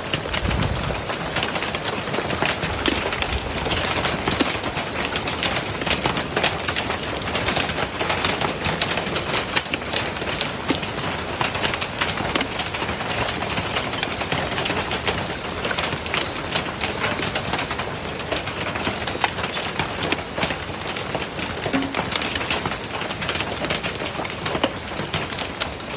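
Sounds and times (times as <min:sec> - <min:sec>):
hailstones pelting: 0:00.0 - 0:25.9.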